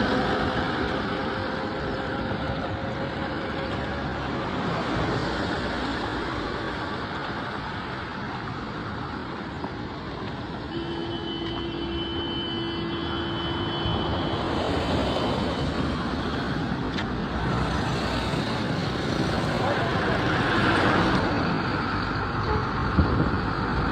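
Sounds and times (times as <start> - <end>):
vehicles on busy road: 0.0 - 23.9.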